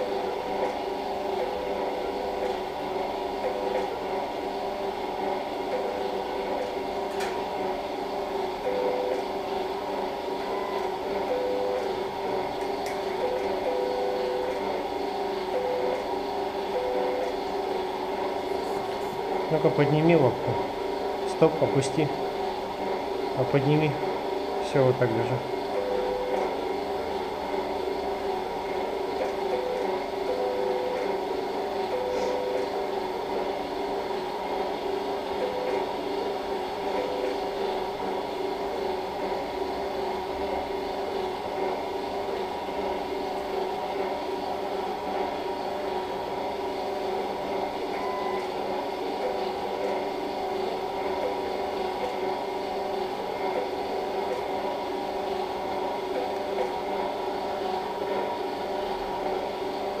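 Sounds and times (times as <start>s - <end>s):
mechanical hum of equipment: 0.0s - 60.0s.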